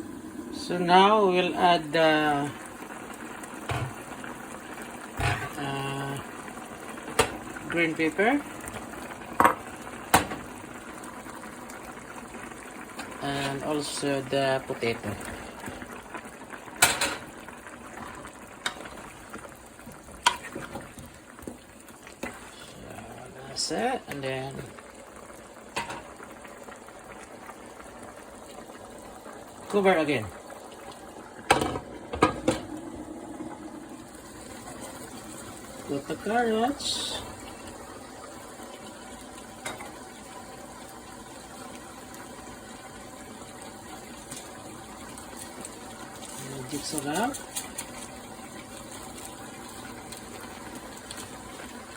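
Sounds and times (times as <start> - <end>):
curry bubbling: 0.0 - 51.9.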